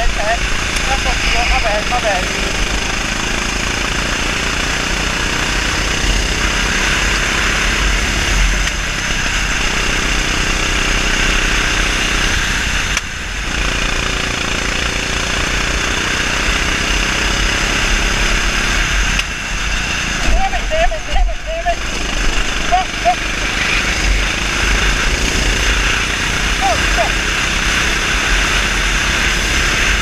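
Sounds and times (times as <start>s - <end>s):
kart engine running hard: 0.0s - 30.0s.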